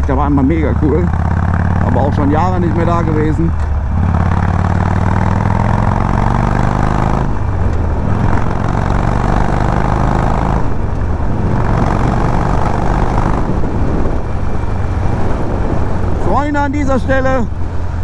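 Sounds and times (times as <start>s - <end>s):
motorcycle engine accelerating: 0.0s - 18.0s
wind noise: 0.0s - 18.0s.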